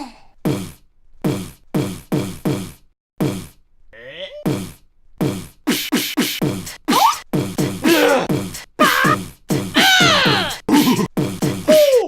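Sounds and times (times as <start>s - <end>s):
beatboxing: 0.4s - 3.6s, 4.4s - 12.0s.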